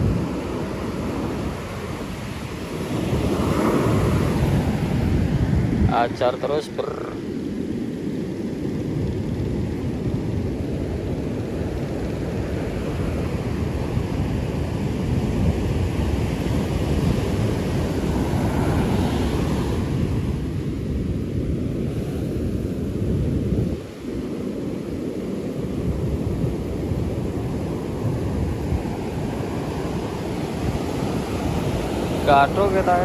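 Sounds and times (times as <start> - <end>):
surf breaking on beach: 0.0 - 33.0
wind rumbling on microphone: 0.0 - 33.0.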